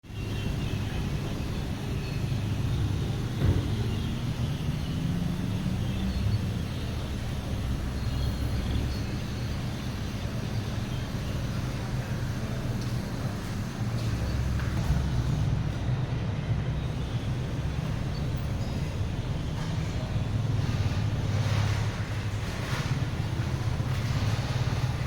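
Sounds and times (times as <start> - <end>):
washing machine humming and rumbling: 0.0 - 25.0.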